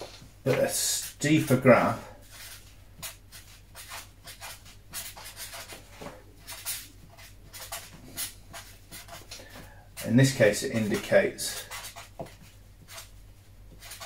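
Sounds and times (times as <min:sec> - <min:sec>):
marker writing on paper: 0:02.3 - 0:14.0.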